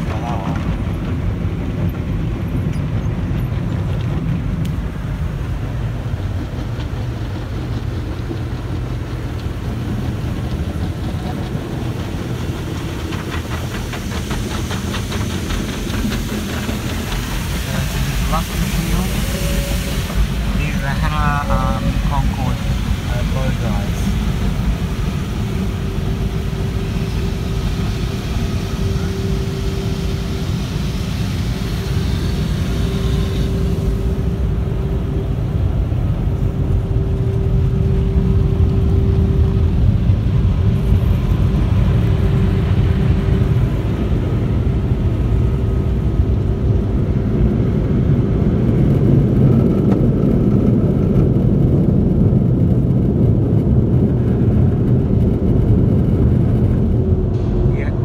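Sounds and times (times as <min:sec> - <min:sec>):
rotating brushes rumbling: 0:00.0 - 0:58.0
steady hum: 0:04.6 - 0:58.0.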